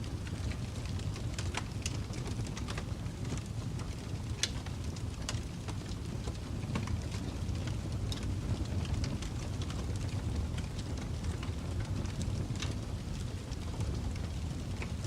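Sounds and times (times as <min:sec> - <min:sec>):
fire rumbling: 0:00.0 - 0:15.0
wood fire crackling and popping: 0:00.0 - 0:15.0.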